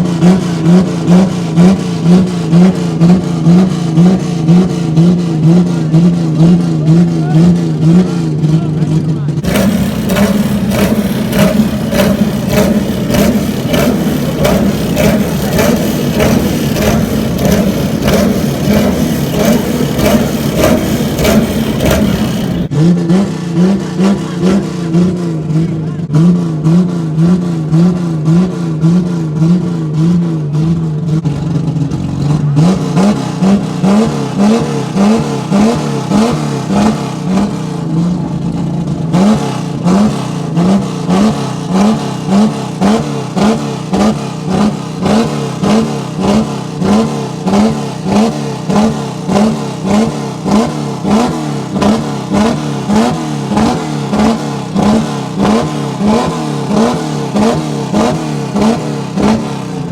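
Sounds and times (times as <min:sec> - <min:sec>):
car engine revving in blips: 0:00.0 - 0:59.9.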